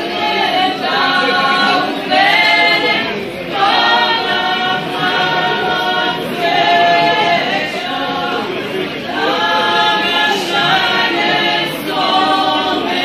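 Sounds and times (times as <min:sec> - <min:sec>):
women singing folk song: 0:00.0 - 0:13.0.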